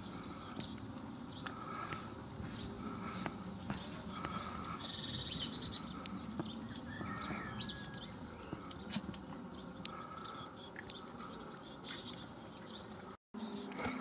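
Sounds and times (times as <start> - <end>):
birds chirping: 0.0 - 14.0
bird trill: 1.4 - 14.0.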